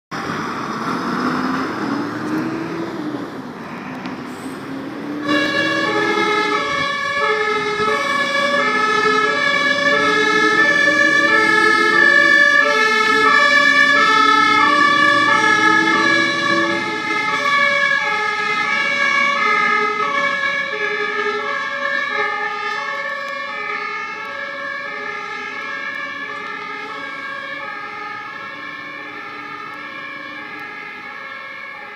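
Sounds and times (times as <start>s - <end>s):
diesel truck engine revving: 0.1s - 30.8s
two-tone siren: 3.6s - 31.9s.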